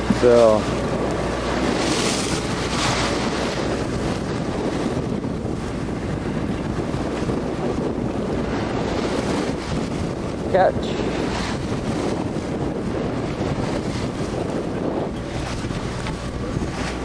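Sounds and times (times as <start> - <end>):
boat engine droning: 0.0 - 17.0
water rushing along hull: 0.0 - 17.0
wind buffeting microphone: 0.0 - 17.0.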